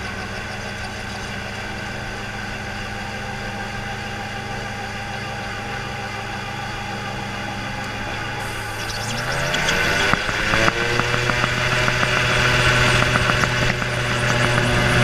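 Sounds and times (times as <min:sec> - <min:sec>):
aircraft engine idling: 0:00.0 - 0:15.0.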